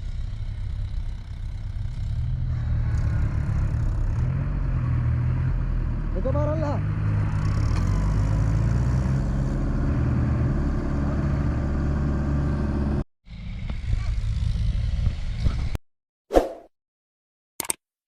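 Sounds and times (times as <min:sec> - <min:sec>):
tractor diesel engine under load: 0:00.0 - 0:15.3.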